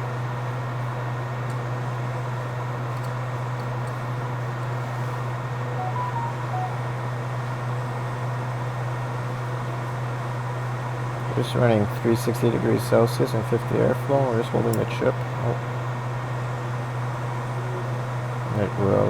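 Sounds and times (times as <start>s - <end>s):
hot air station fan hum and hiss: 0.0s - 19.0s.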